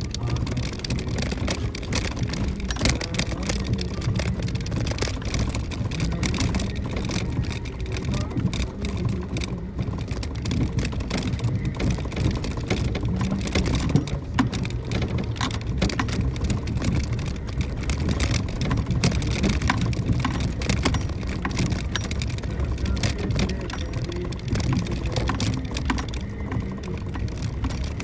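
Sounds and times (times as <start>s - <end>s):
gravel clattering under tyres: 0.0s - 28.0s.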